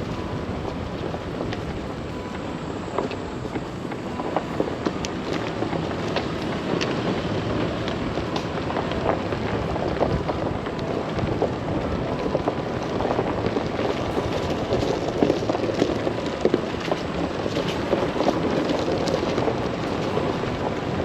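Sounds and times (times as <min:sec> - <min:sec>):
tyres crunching on gravel: 0:00.0 - 0:21.0.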